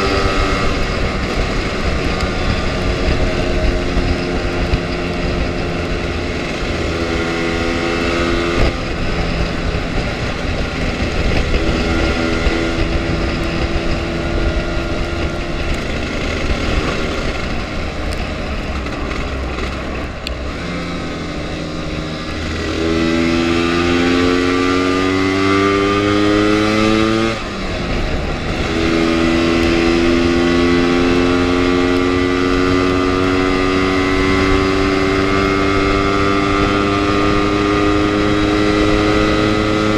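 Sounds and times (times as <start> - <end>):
scooter engine accelerating: 0.0 - 39.9
wind on microphone: 0.0 - 39.9.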